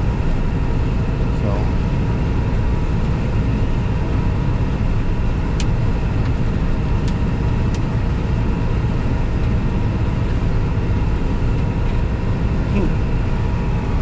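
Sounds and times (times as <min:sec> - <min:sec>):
combine engine and threshing drone: 0:00.0 - 0:14.0.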